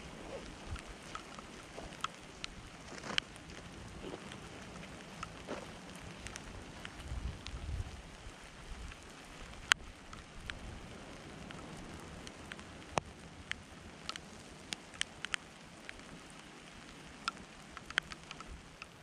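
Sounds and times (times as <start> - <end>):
raindrops tapping close by: 0.0 - 19.0
steady rain falling: 0.0 - 19.0.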